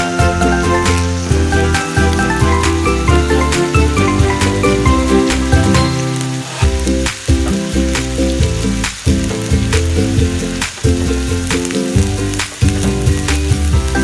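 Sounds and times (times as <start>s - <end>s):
background music: 0.0s - 14.0s
squid sizzling in a wok: 0.0s - 14.0s.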